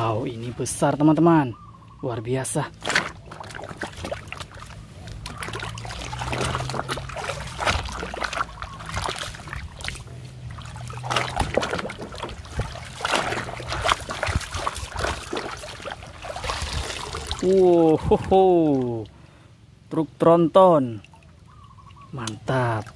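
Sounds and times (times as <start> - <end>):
muddy water sloshing in a basin: 0.0 - 19.3, 20.4 - 22.9.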